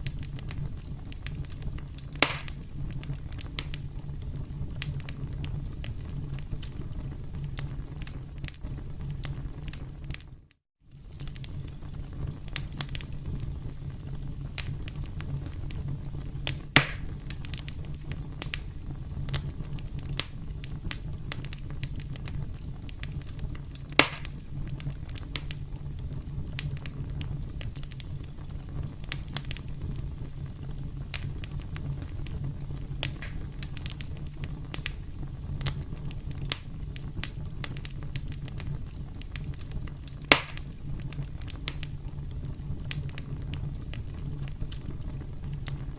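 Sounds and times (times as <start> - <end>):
loud sharp fire pops: 0.0 - 10.3, 10.9 - 45.9
campfire crackling: 0.0 - 45.9.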